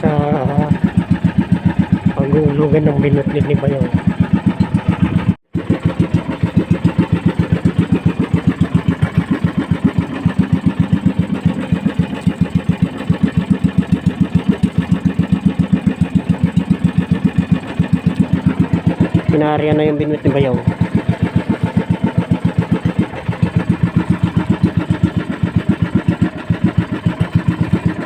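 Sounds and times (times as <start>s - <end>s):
small boat engine puttering: 0.0s - 28.0s.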